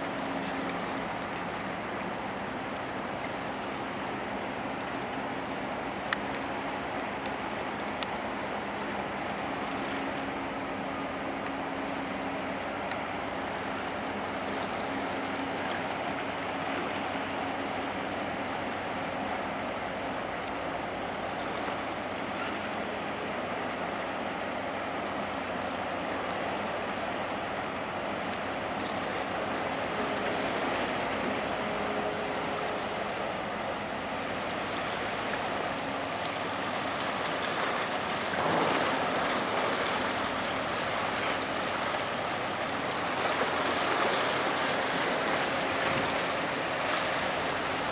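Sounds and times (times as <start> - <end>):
churned water rushing: 0.0 - 47.9
low engine hum: 0.0 - 47.9.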